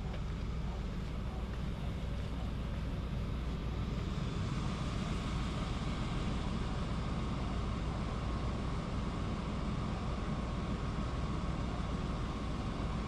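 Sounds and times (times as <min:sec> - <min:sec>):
rainy street rumble and hiss: 0:00.0 - 0:13.0.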